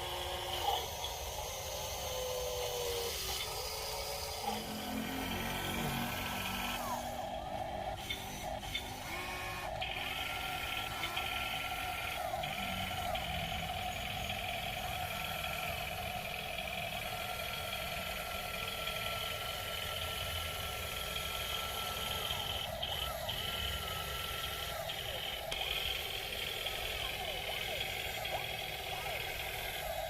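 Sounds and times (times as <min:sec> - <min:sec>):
small electric motors whining: 0:00.0 - 0:30.0.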